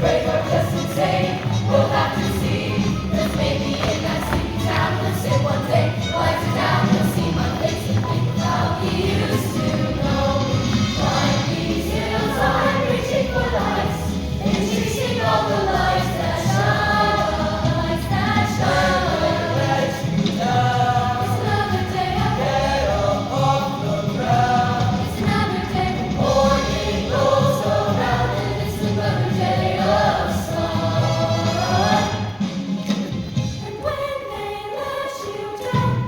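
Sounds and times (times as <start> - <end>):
choir singing: 0.0 - 32.6, 33.6 - 36.0.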